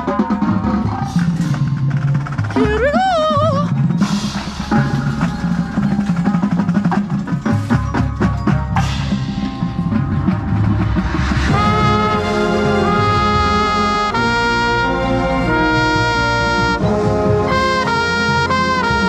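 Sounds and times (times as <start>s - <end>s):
drum strikes and rolls: 0.0s - 19.0s.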